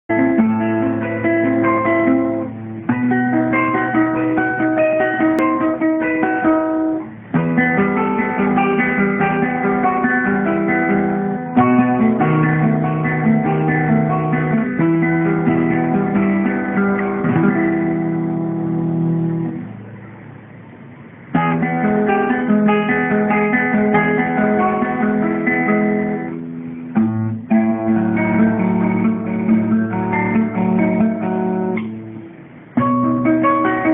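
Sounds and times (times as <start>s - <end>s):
classical guitar playing: 0.1s - 33.9s.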